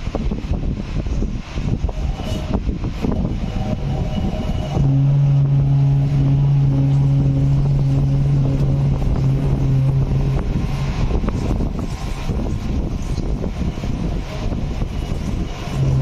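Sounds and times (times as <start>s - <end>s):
mechanical noise: 1.7s - 16.0s
machine humming: 2.0s - 16.0s.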